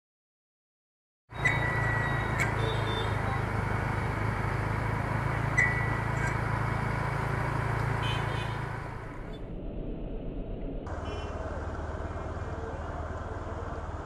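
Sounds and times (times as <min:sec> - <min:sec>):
street traffic: 0:01.3 - 0:14.0.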